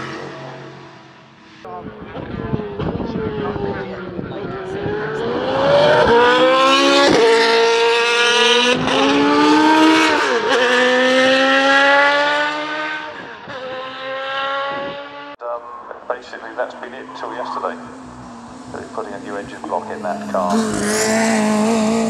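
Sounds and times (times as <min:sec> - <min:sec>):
racing car engines at full throttle: 0:00.0 - 0:22.0.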